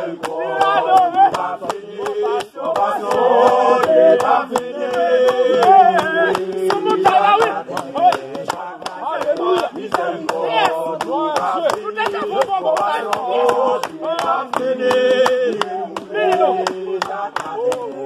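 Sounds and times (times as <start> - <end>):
hand-clapping: 0.0 - 18.0
people singing a worship song: 0.0 - 18.0.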